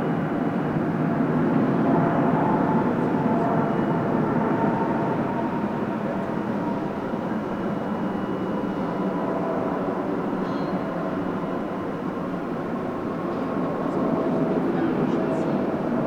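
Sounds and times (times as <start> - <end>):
jet engines at takeoff power: 0.0 - 16.0.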